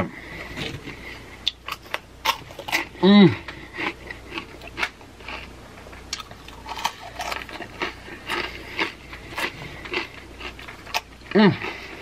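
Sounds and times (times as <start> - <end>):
chewing and crunching chips: 0.5 - 12.0.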